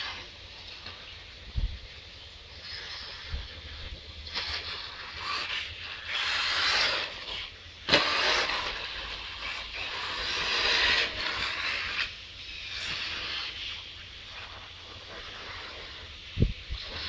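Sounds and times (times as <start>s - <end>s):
radio-controlled car running: 0.0s - 1.2s, 2.5s - 17.0s.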